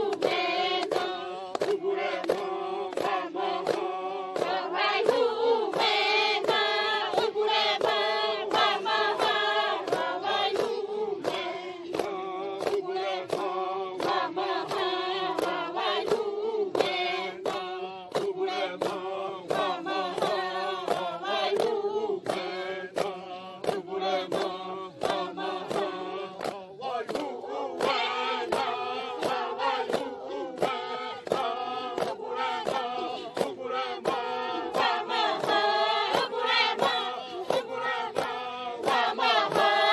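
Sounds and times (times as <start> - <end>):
women singing in unison: 0.0 - 39.9.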